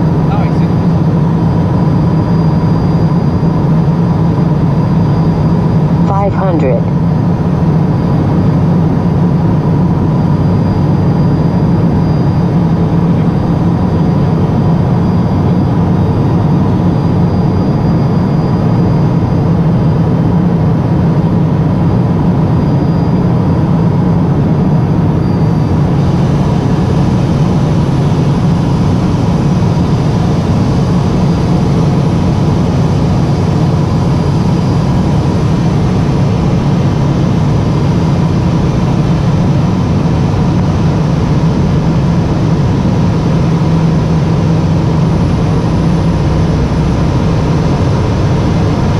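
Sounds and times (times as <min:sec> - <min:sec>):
aircraft engine drone in cabin: 0:00.0 - 0:48.9.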